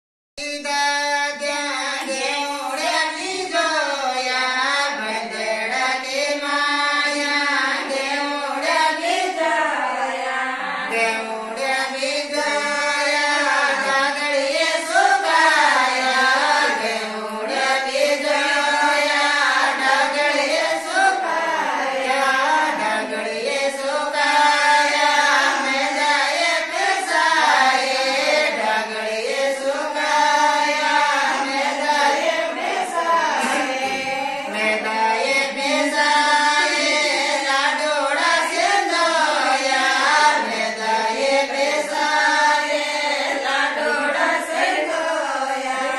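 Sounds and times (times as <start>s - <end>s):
women singing in unison: 4.2s - 45.9s.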